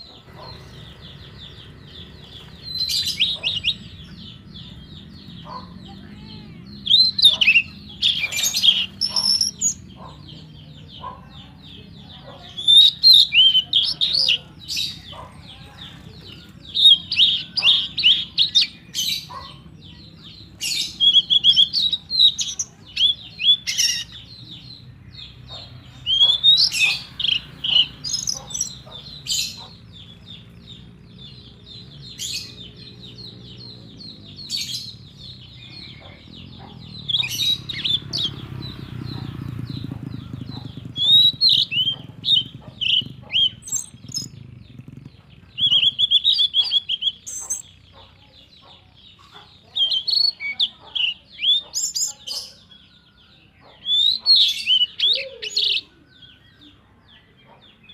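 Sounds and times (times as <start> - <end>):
steady low hum: 0.0 - 48.4
small birds chirping: 0.0 - 57.9.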